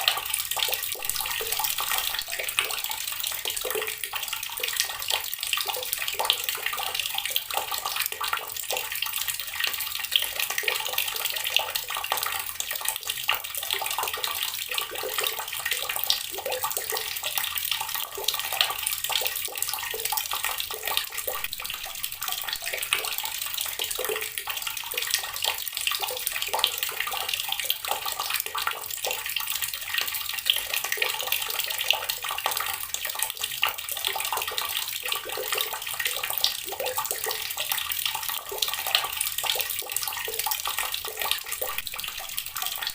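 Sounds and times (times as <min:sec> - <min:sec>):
water running from a tap: 0:00.0 - 0:42.9.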